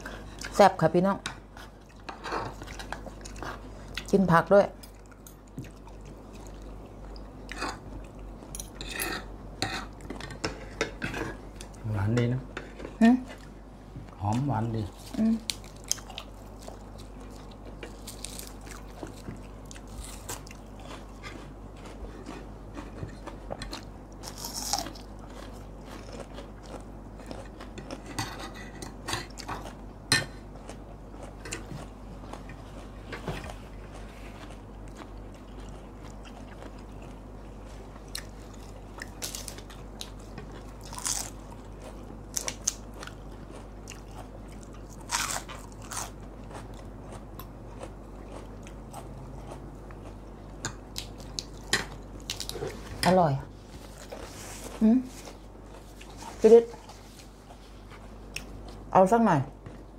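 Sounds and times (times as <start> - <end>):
people chewing and crunching food: 0.0 - 59.9.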